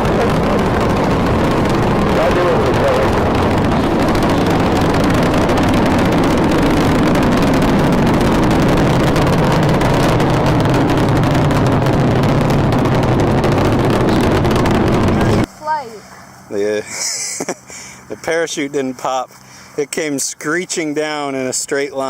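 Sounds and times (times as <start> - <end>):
rocket engines roaring: 0.0 - 21.9.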